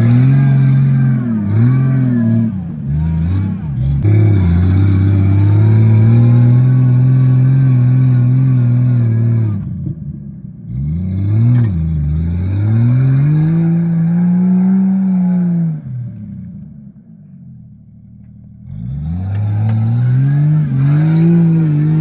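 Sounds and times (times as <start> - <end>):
engine revving hard: 0.0 - 9.7, 10.7 - 16.6, 18.7 - 22.0.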